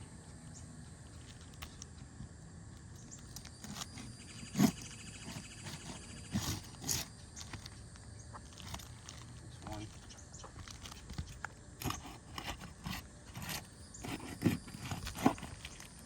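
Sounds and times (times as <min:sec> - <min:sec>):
tool scraping under shingles: 0:01.0 - 0:16.0.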